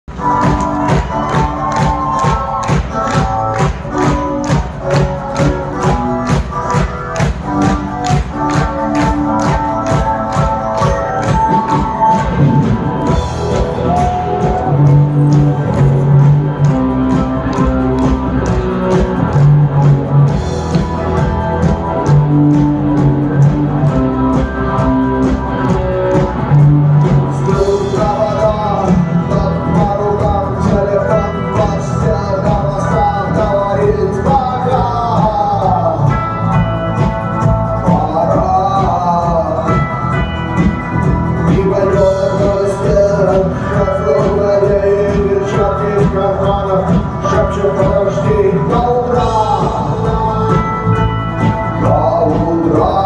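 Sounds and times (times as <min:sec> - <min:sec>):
bass guitar: 0:00.0 - 0:53.0
electric guitars: 0:00.1 - 0:53.0
steady drum beat: 0:00.1 - 0:53.0.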